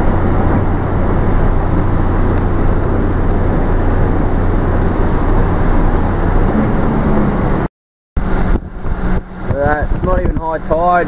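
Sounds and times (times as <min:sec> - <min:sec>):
low drone: 0:00.0 - 0:09.6
moving vehicle running: 0:00.0 - 0:11.0
storm wind rumble: 0:00.0 - 0:11.0.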